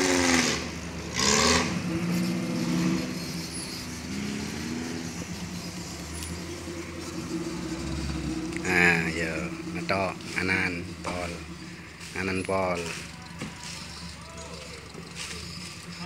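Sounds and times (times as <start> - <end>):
engine revving at low speed: 0.0 - 16.0.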